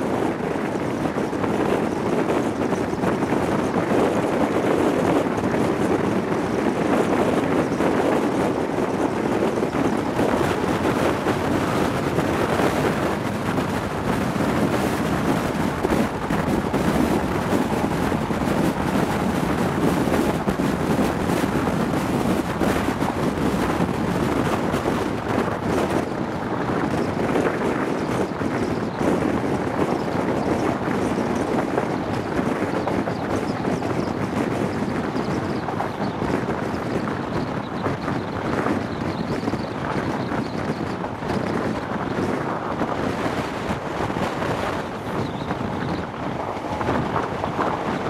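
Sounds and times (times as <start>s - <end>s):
train rumbling on rails: 0.0s - 48.0s
wind rushing over microphone: 0.0s - 48.0s.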